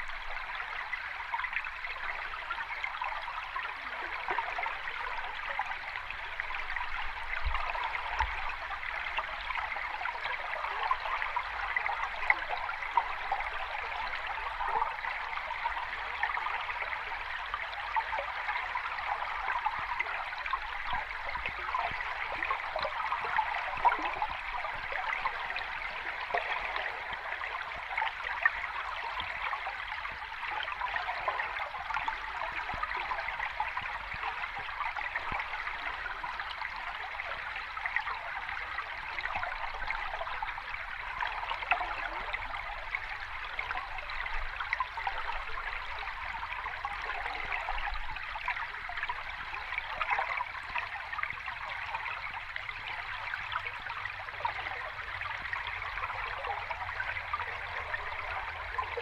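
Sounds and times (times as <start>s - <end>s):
small stream trickling: 0.0s - 59.0s.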